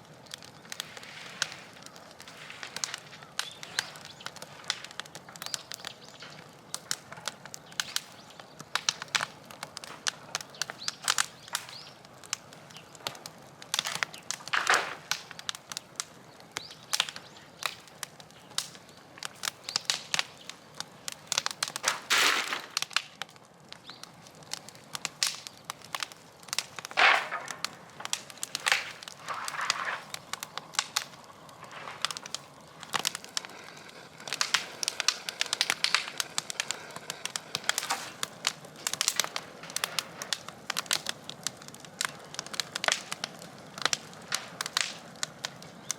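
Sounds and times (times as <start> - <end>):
bonfire crackling and popping: 0.0 - 45.9
fire rustling bursts: 0.0 - 45.9.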